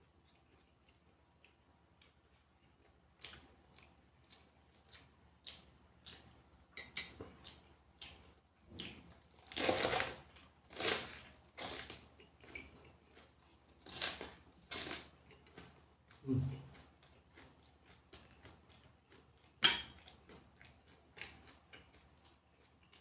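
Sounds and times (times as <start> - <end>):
person chewing and crunching food: 0.0 - 23.0.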